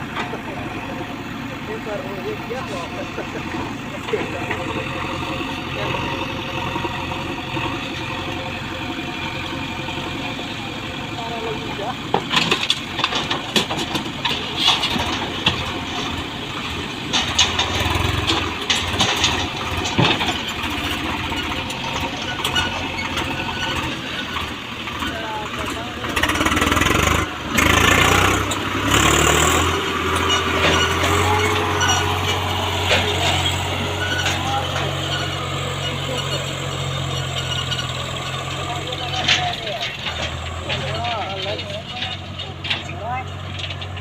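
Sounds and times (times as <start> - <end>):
diesel engine running: 0.0 - 44.0
engine knocks and clatter: 0.0 - 44.0.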